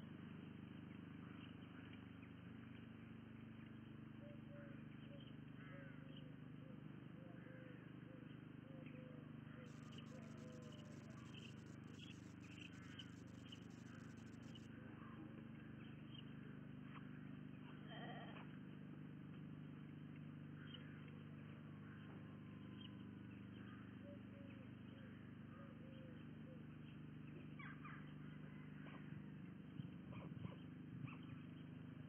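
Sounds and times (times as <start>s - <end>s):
low electrical hum: 0.0s - 32.0s
faint bird chirps: 1.3s - 18.5s, 21.9s - 31.8s.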